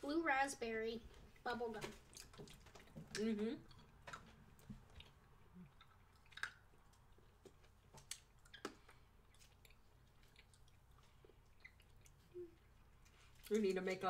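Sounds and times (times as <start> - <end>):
faint chewing of sticky toffee: 1.0 - 14.0.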